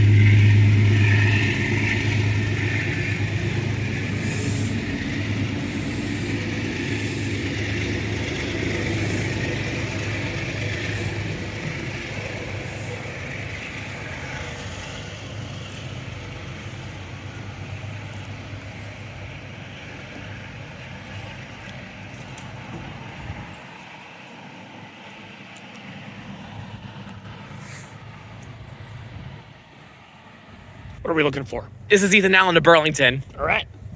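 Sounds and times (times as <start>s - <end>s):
train wheels on rails: 0.0s - 29.3s
diesel train engine hum: 0.0s - 31.0s.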